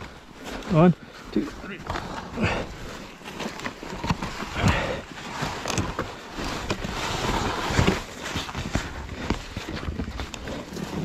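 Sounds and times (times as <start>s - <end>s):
crunching in snow: 0.0s - 11.0s.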